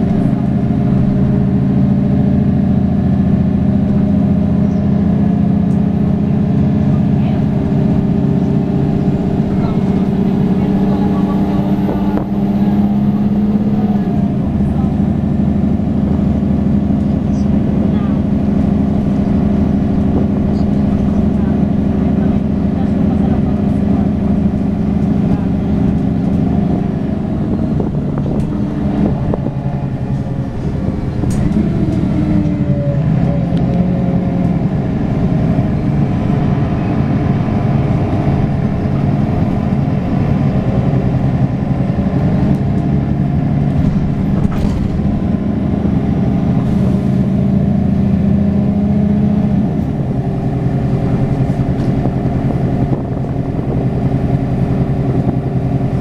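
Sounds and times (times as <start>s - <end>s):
bus diesel engine: 0.0s - 56.0s
road noise: 0.0s - 56.0s.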